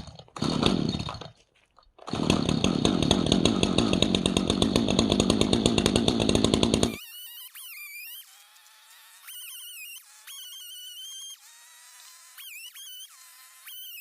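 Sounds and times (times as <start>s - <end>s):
chainsaw running: 0.0s - 1.3s, 2.0s - 14.0s.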